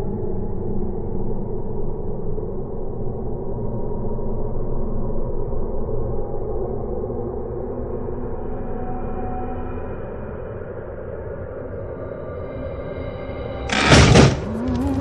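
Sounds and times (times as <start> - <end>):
droning soundtrack tones: 0.0 - 15.0
low rumble: 0.0 - 15.0.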